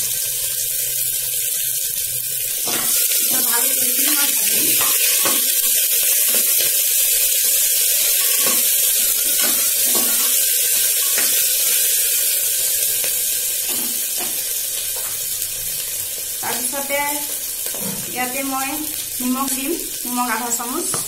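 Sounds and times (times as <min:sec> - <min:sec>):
onion sizzling in hot oil: 0:00.0 - 0:21.0.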